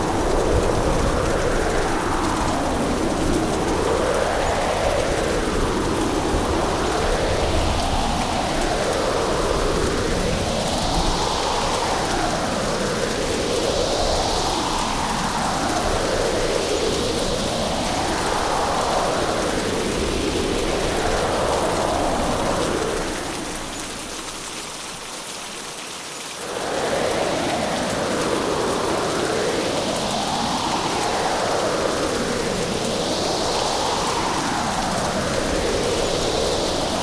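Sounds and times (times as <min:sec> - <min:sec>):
gusting wind: 0:00.0 - 0:25.1, 0:26.4 - 0:37.0
heavy rain: 0:00.0 - 0:37.0.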